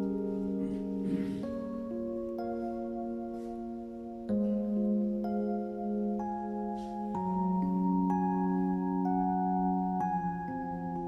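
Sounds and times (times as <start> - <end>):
soft mallet percussion chords: 0.0 - 11.0.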